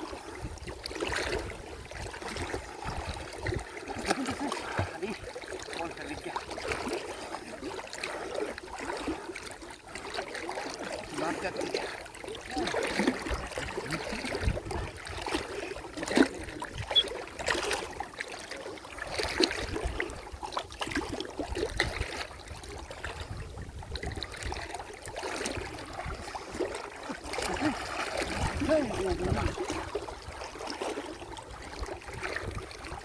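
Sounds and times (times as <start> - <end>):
pond water sloshing and splashing: 0.0 - 33.0.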